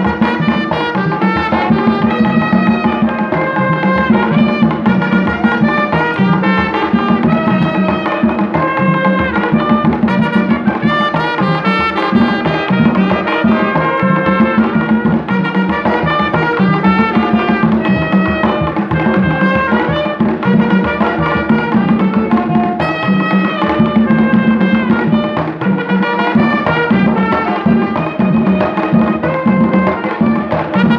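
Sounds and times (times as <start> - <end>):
hand drums beating: 0.0 - 30.9
trumpet melody: 0.0 - 30.9.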